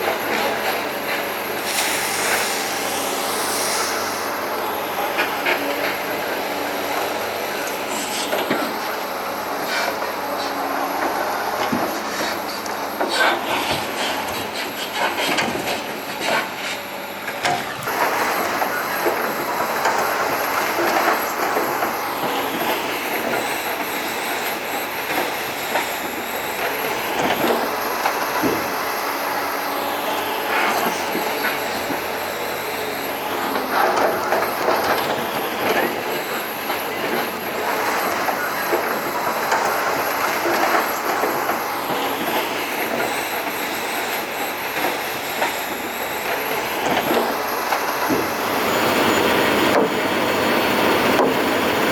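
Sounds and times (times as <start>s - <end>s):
truck engine and road noise: 0.0s - 51.9s.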